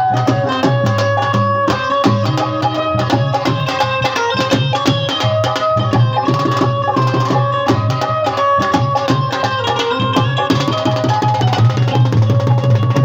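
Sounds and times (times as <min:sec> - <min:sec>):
fast hand-drum strokes: 0:00.0 - 0:13.0
held melody notes: 0:00.0 - 0:13.0.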